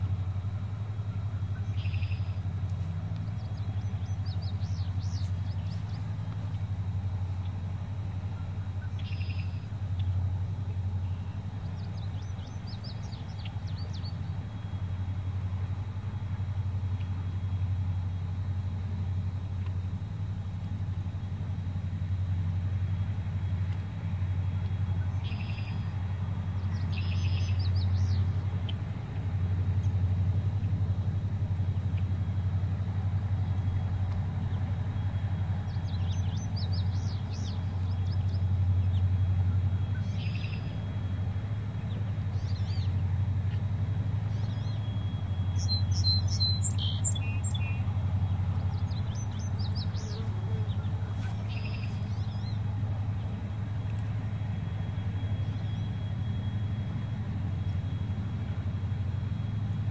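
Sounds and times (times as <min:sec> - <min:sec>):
barge engine drone: 0:00.0 - 0:59.9
birds chirping: 0:00.0 - 0:59.9.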